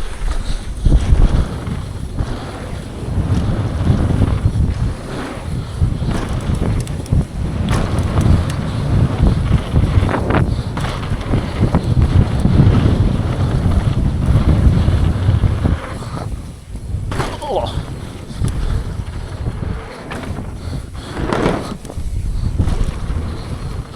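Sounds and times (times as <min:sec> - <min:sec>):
mountain bike rattling on dirt trail: 0:00.0 - 0:23.9
wind buffeting microphone: 0:00.0 - 0:23.9.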